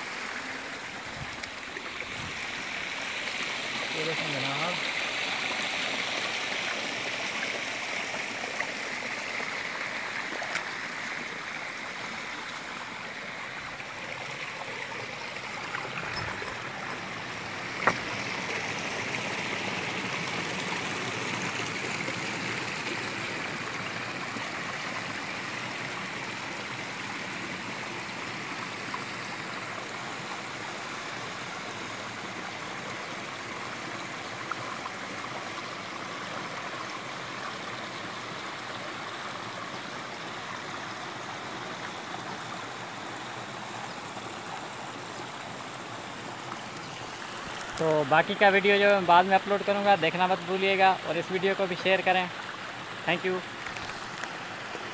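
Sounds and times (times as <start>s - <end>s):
water rushing over rocks: 0.0s - 54.9s.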